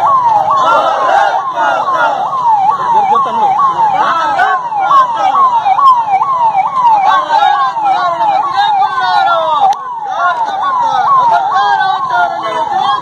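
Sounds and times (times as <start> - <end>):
crowd chatter: 0.0 - 13.0
electronic siren yelping: 0.0 - 13.0.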